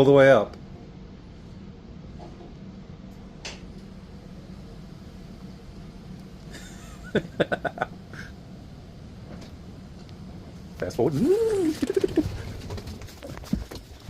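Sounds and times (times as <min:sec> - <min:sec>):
elevator low hum: 0:00.0 - 0:14.0.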